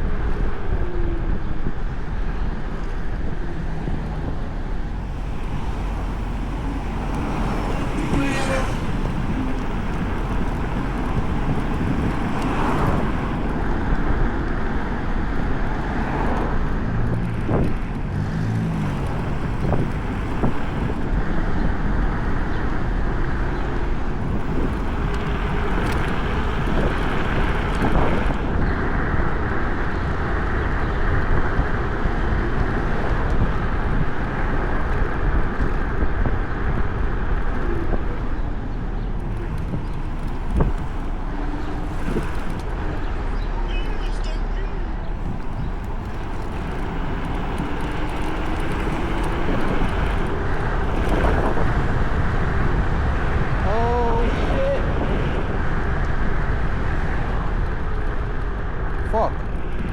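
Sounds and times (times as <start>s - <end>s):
scooter tyres rumbling on path: 0.0s - 59.9s
wind rushing over microphone: 0.0s - 59.9s.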